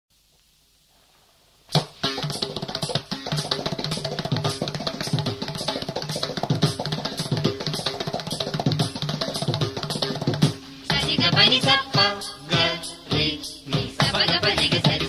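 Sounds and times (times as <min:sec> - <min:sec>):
instrumental music with drum beat: 0:01.7 - 0:15.0.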